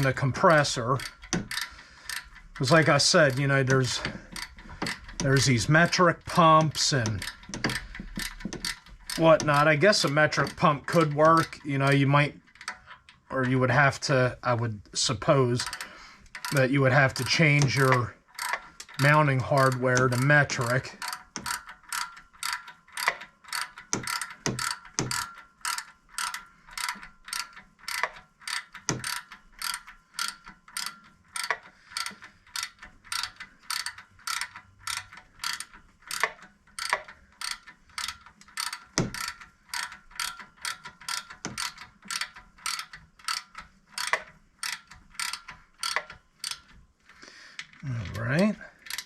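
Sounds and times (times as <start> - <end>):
hand ratchet clicking: 0.0 - 49.0.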